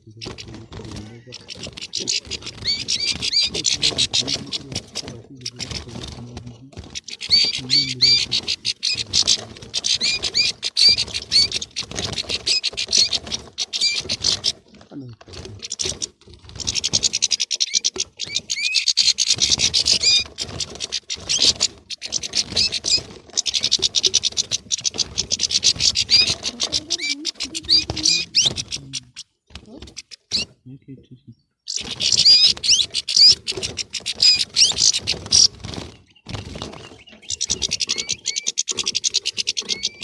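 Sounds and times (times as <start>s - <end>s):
finches twittering: 0.0s - 40.0s.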